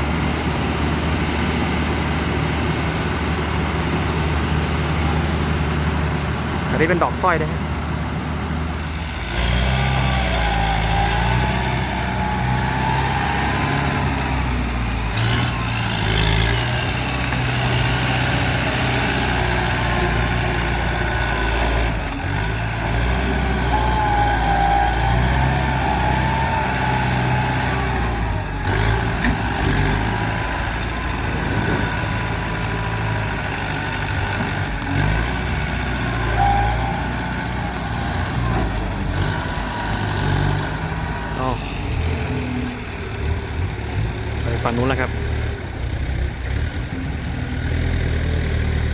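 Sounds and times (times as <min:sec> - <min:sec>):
heavy diesel machinery engine: 0:00.0 - 0:48.9.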